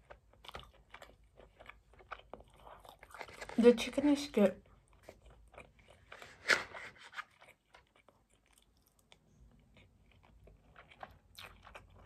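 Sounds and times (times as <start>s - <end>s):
person chewing: 0.0s - 3.6s, 4.6s - 12.0s.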